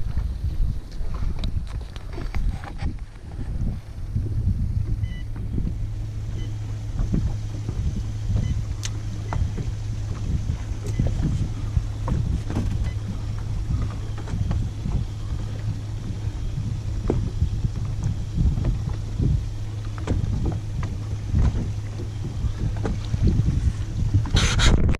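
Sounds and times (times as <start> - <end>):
steady low hum: 0.0 - 24.9
waves lapping against boat hull: 0.0 - 24.9
wind buffeting microphone: 0.0 - 24.9.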